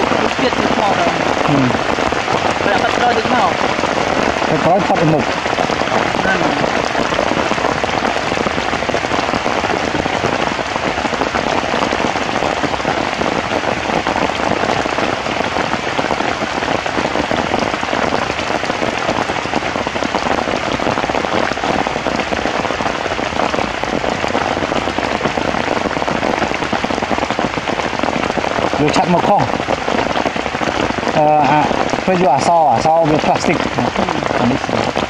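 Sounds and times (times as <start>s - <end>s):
heavy rain hissing: 0.0s - 35.0s.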